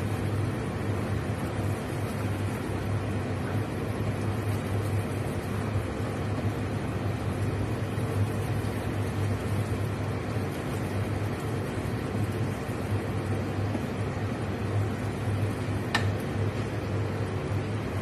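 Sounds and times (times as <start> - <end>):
spatula stirring in a pan: 0.0 - 17.0
motor or fan humming: 0.0 - 18.0
thick sauce simmering: 0.0 - 18.0.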